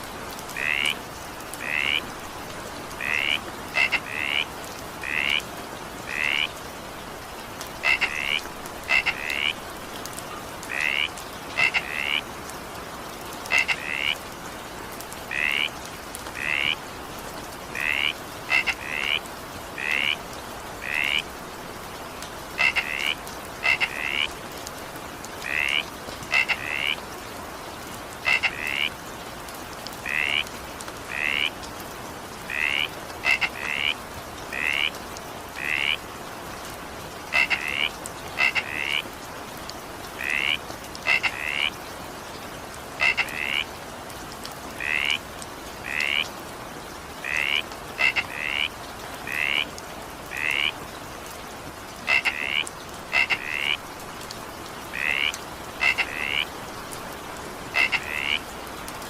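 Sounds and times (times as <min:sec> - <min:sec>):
rain hiss: 0:00.0 - 0:59.0
frogs croaking: 0:00.2 - 0:29.2, 0:29.9 - 0:59.0.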